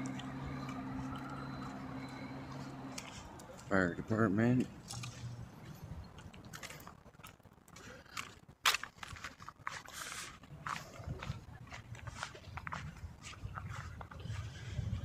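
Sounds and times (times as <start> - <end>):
footsteps crunching on gravel: 0.0 - 15.0.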